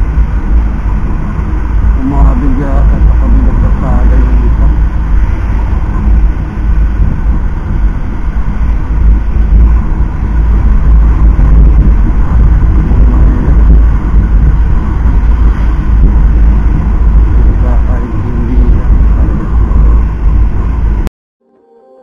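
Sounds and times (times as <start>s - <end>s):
road noise: 0.0s - 21.1s
wind buffeting microphone: 0.0s - 21.1s.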